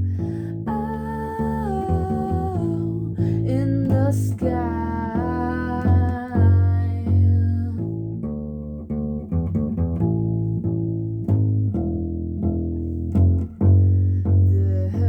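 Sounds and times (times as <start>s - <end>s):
bass line: 0.0s - 15.0s
plucked guitar: 0.0s - 15.0s.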